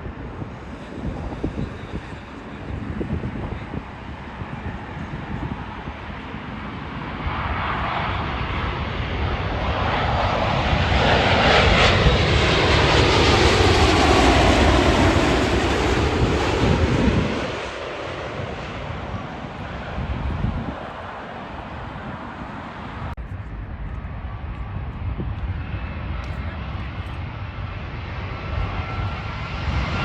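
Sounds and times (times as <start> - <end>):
jet airliner passing: 0.0 - 30.0.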